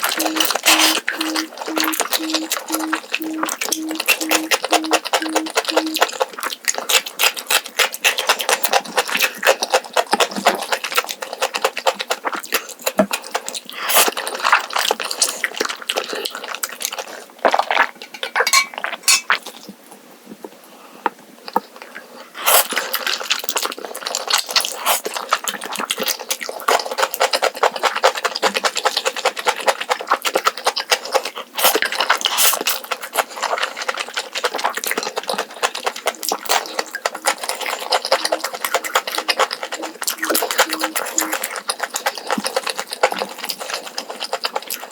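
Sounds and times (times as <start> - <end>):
wet chewing and smacking: 0.0 - 19.6, 21.5 - 44.9.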